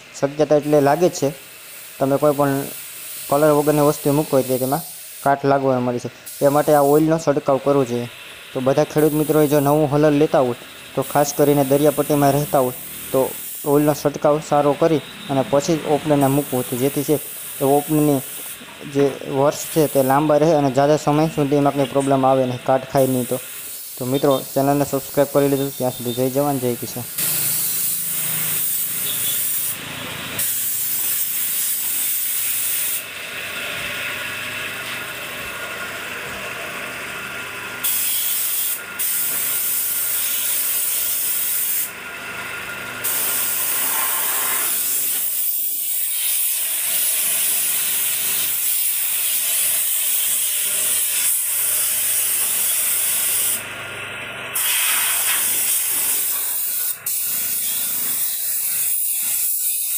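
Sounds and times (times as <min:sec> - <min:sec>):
hose spray nozzle hissing: 0:00.3 - 0:29.8, 0:30.4 - 0:33.1, 0:37.8 - 0:41.9, 0:43.0 - 0:53.6, 0:54.6 - 0:59.9.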